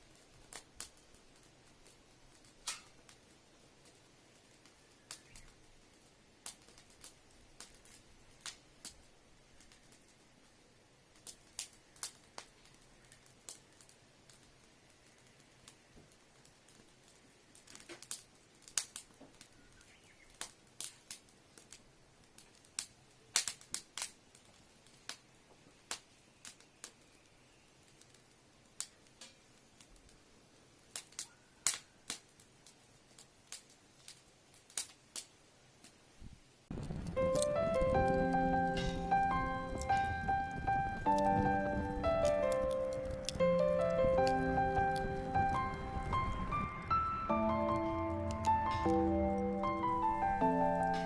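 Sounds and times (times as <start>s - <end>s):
small flame crackling and popping: 0.0s - 51.0s.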